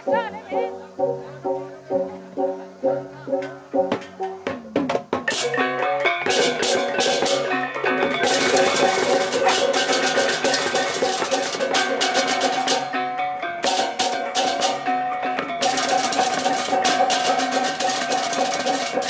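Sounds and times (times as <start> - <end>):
gamelan music: 0.0 - 19.0.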